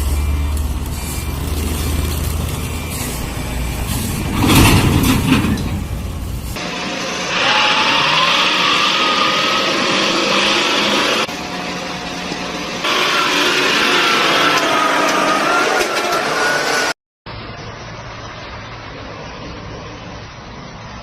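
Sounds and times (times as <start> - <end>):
car engine and road noise: 0.0 - 7.8, 8.7 - 21.0.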